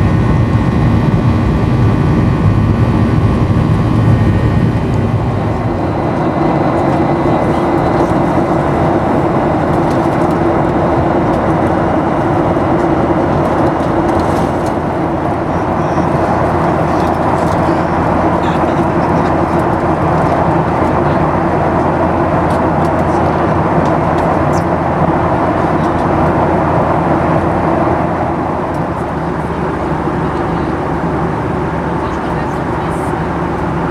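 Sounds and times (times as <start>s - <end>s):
jet airliner cabin noise: 0.0s - 33.9s.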